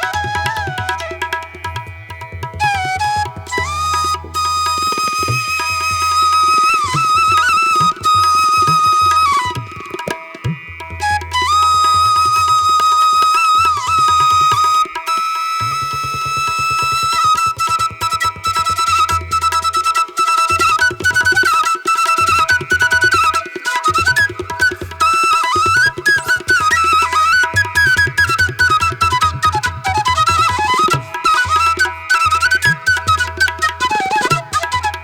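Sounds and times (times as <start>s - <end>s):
flute playing held notes: 0.0s - 1.6s, 2.5s - 10.0s, 11.0s - 35.0s
hand drum percussion: 0.0s - 35.0s.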